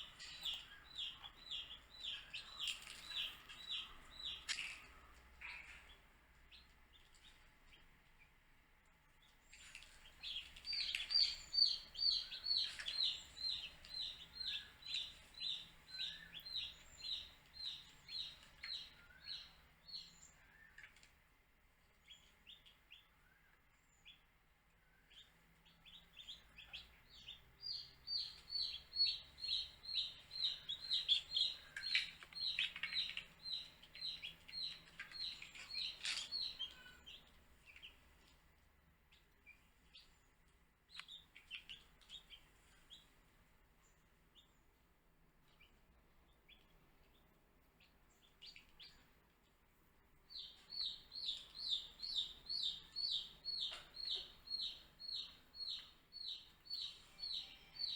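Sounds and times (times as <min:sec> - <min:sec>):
baby chicks peeping: 0:00.0 - 0:08.4, 0:09.2 - 0:21.2, 0:25.0 - 0:38.4, 0:39.0 - 0:43.2, 0:45.4 - 0:49.6, 0:50.3 - 0:57.9.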